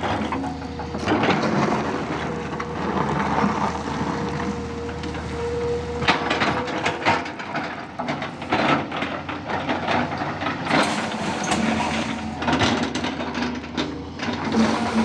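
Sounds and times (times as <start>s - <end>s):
bucket clattering and scraping: 0.0s - 15.0s
excavator diesel engine running: 0.0s - 15.0s.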